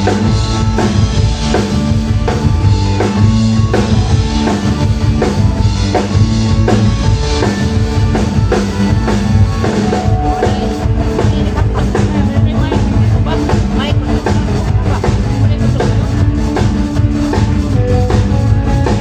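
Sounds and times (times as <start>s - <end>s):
band playing live: 0.0s - 19.0s
low bass line: 0.0s - 19.0s.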